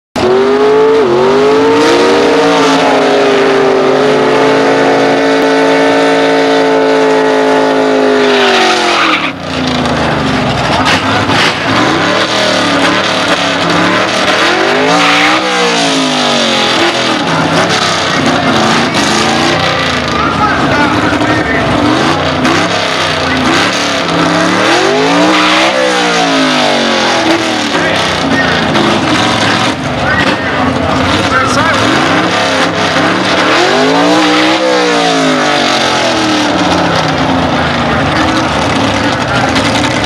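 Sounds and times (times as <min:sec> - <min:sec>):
engine at high revs: 0:00.2 - 0:40.0
engine running unevenly and blipped: 0:00.2 - 0:40.0.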